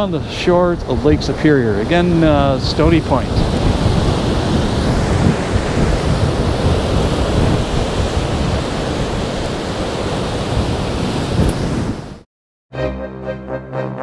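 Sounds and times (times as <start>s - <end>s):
strong wind: 0.0s - 12.2s
waves breaking on rocky shore: 0.0s - 12.2s.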